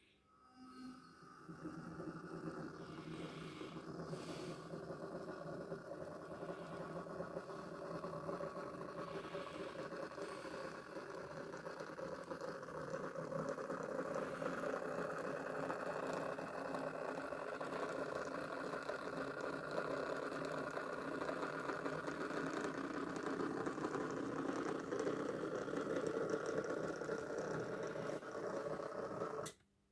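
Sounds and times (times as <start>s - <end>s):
model train motor whirring: 1.3s - 29.5s
wheels rattling over rails: 1.5s - 29.5s.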